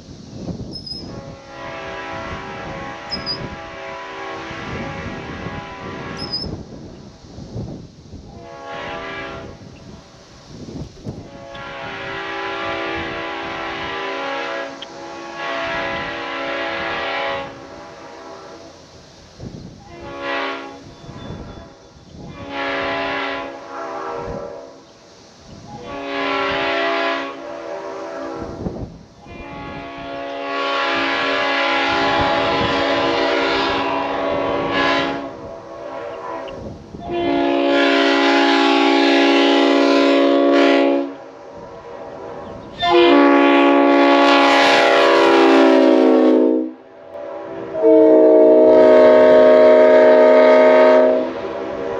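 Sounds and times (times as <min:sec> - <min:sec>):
train horn blasts: 0:00.7 - 0:06.9, 0:08.3 - 0:10.2, 0:11.0 - 0:18.9, 0:19.5 - 0:51.9.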